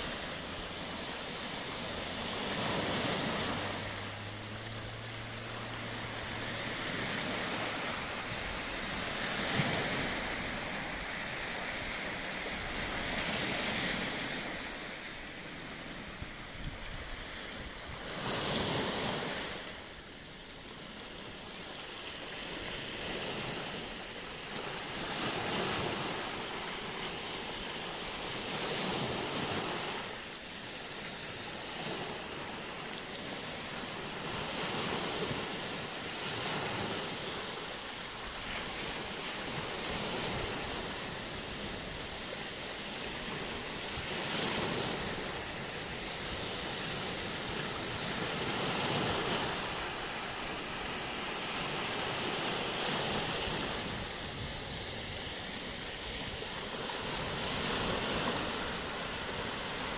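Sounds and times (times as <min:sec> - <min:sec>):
waves breaking on pebble shore: 0:00.0 - 0:59.9.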